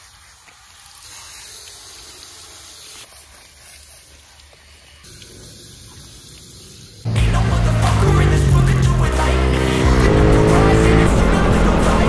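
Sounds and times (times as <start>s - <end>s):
hose water spraying: 0.0s - 12.0s.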